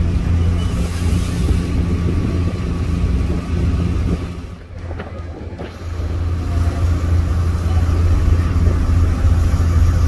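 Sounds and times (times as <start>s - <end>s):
ferry engines humming: 0.0s - 10.0s
wind on microphone: 0.0s - 10.0s.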